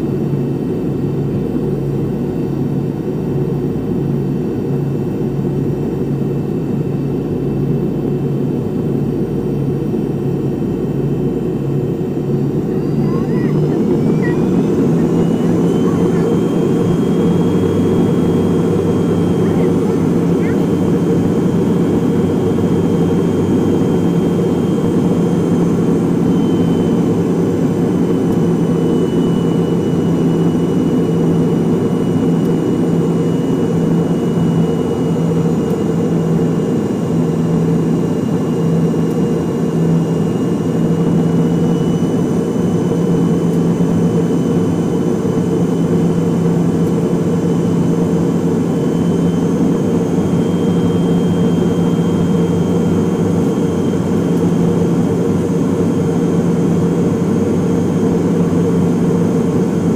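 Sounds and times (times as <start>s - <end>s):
jet engine hum with high whine: 0.0s - 59.9s.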